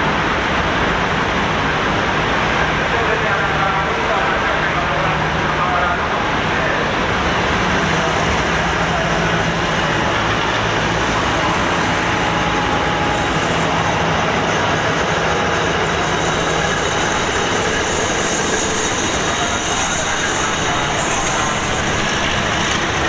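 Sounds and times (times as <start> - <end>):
locomotive engine droning: 0.0 - 23.0
train coaches rolling over rails: 0.0 - 23.0.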